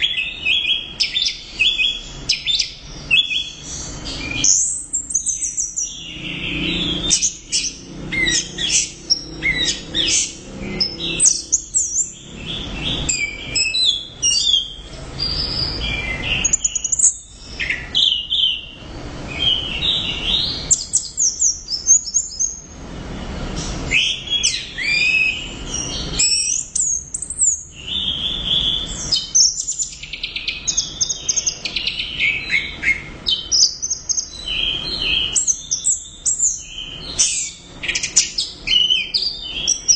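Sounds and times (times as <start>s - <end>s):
thrush singing whistled trills: 0.0s - 39.9s.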